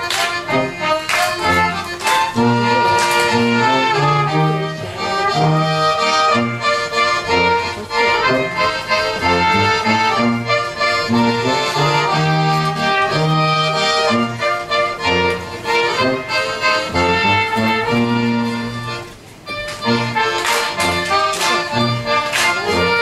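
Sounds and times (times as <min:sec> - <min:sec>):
accordion folk dance music: 0:00.0 - 0:23.0.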